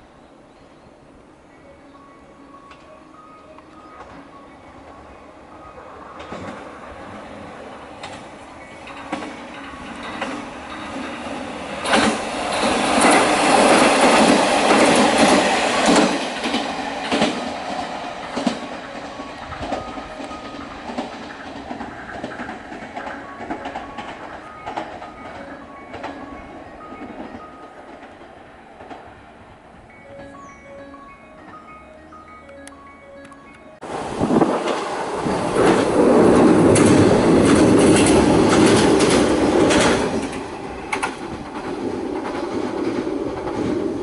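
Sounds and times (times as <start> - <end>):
diesel train passing: 0.0 - 44.0
wheels clicking over rail joints: 5.8 - 44.0.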